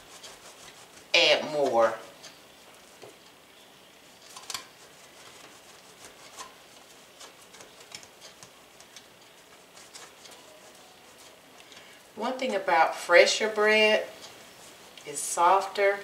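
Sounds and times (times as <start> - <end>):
bread scraping on metal grater: 0.0 - 3.0, 4.2 - 12.7, 13.3 - 16.0.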